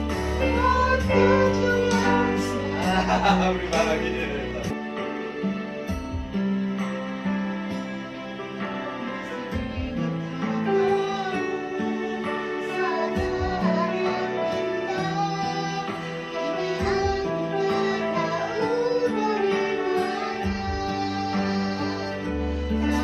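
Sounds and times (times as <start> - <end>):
person singing: 0.0 - 4.8, 8.8 - 23.0
plucked guitar: 0.0 - 23.0.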